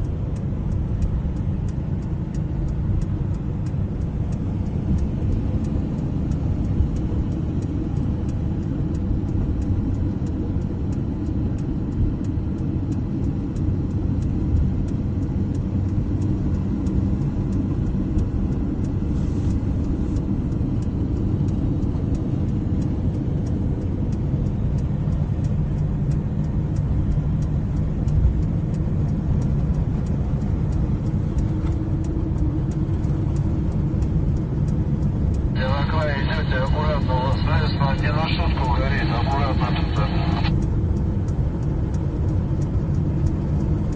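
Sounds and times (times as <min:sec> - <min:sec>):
engine and tyre rumble: 0:00.0 - 0:43.9
hazard light ticking: 0:00.0 - 0:43.9.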